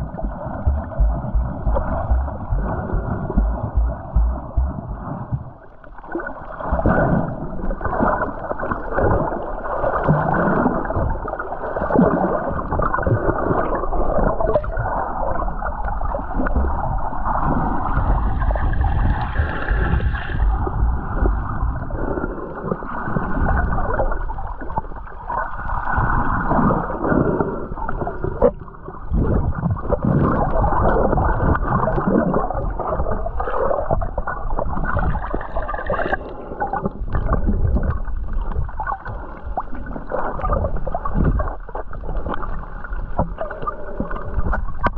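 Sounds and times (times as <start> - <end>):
water sloshing underwater: 0.0 - 44.9.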